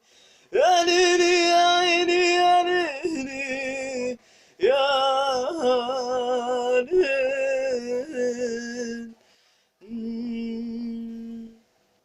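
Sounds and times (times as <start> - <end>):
man singing unaccompanied: 0.5 - 9.2, 9.8 - 11.7.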